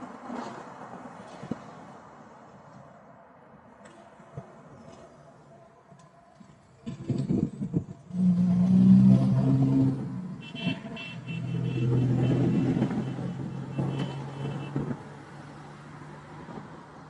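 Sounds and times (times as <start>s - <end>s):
cars driving by: 0.0s - 17.0s.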